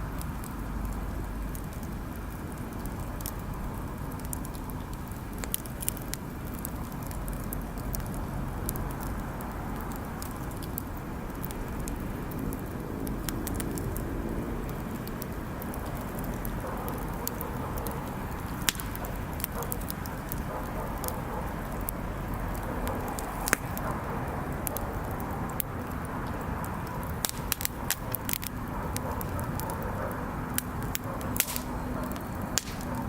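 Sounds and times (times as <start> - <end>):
bonfire crackling and popping: 0.0 - 33.0
low fire rumble: 0.0 - 33.0.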